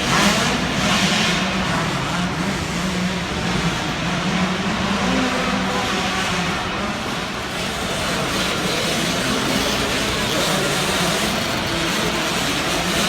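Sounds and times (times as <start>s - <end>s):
dirt bike engines droning: 0.0s - 13.0s.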